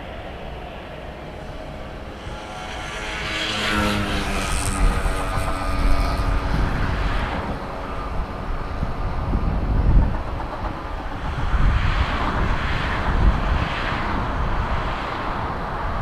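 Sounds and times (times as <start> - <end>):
jet engine rumble: 0.0 - 16.0
jet engine whine: 0.0 - 16.0.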